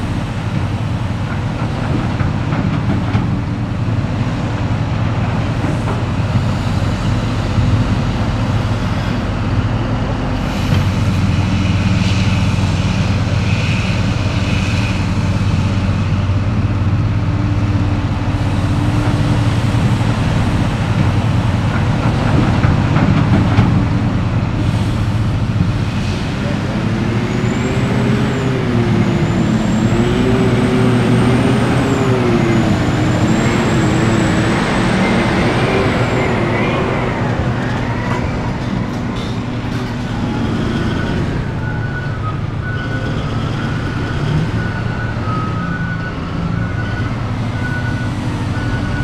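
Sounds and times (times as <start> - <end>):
excavator diesel engine drone: 0.0 - 49.0.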